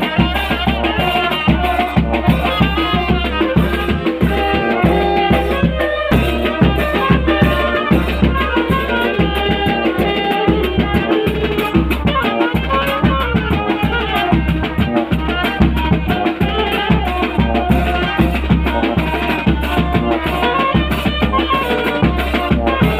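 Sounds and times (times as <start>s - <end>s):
brass band playing: 0.0s - 22.9s
driving drum beat: 0.0s - 22.9s.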